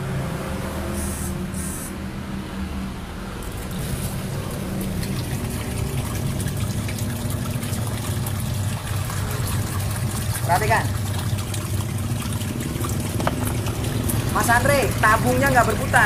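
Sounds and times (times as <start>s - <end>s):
washing machine low hum: 0.0s - 16.0s
water trickling: 3.0s - 16.0s.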